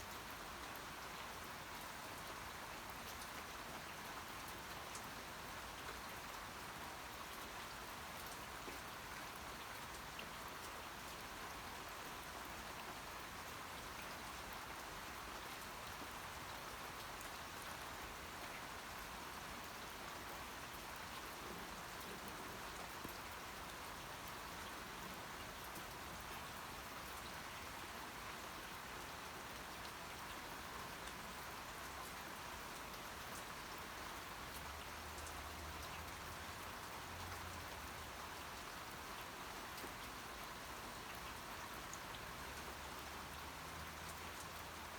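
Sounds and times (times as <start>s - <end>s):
rain drops pattering: 0.0s - 44.9s.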